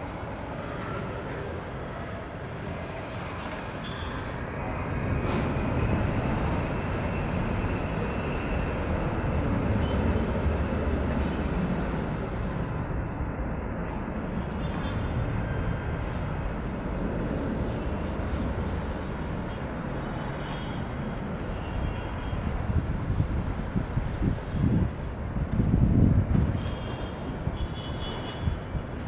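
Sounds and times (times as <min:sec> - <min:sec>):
jet engines rumbling at takeoff: 0:00.0 - 0:27.9.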